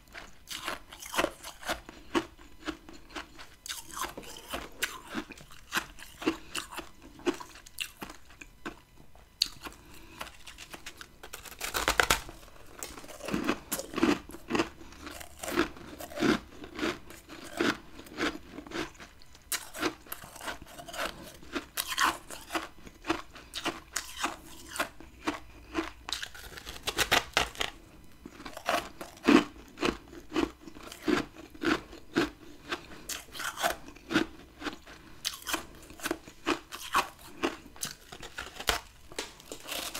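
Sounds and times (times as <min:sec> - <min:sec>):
crisp chewing crunches: 0:00.0 - 0:39.9.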